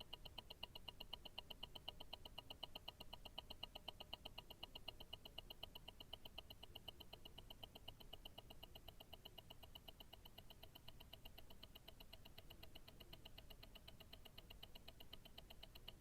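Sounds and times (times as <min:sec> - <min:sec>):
watch ticking: 0:00.0 - 0:16.0.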